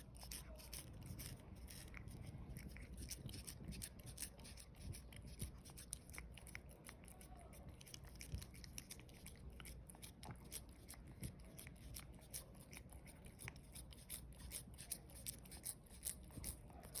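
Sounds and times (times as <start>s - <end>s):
cat chewing and licking: 0.0s - 17.0s.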